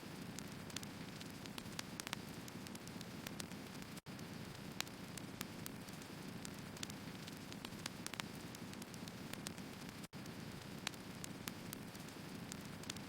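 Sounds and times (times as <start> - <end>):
fire hissing and rumbling: 0.0 - 13.0
logs crackling and popping: 0.0 - 13.0.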